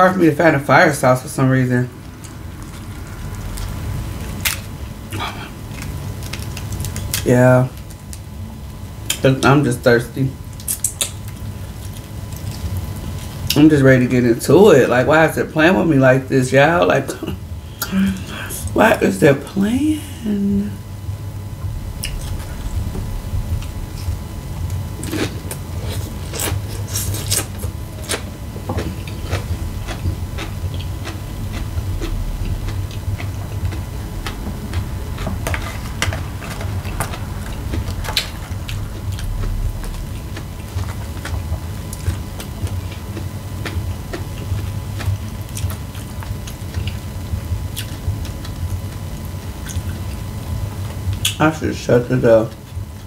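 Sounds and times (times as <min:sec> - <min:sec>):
steady low hum: 0:00.0 - 0:53.0
chewing and crunching chips: 0:01.8 - 0:15.0, 0:21.7 - 0:51.5.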